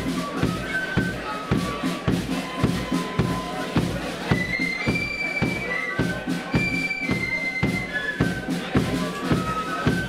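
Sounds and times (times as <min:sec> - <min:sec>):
bass drum beat: 0:00.0 - 0:10.0
flutes playing a march melody: 0:00.0 - 0:10.0.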